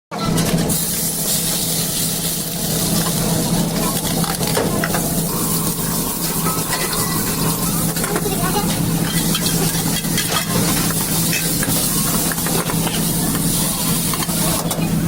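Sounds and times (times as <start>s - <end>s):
food sizzling in oil: 0.6s - 15.0s.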